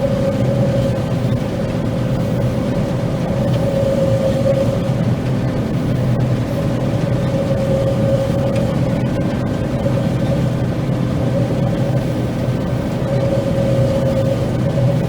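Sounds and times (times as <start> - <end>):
combine harvester droning: 0.0 - 15.0
steady machine whine: 0.0 - 15.0.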